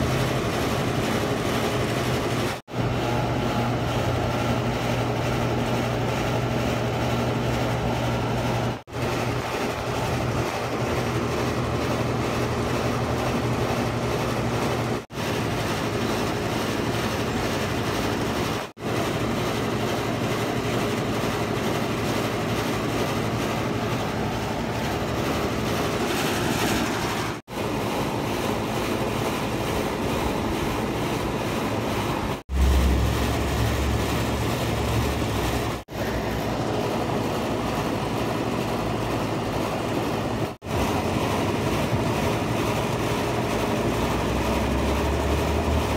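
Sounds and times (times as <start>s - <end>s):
rushing outdoor noise: 0.0s - 45.9s.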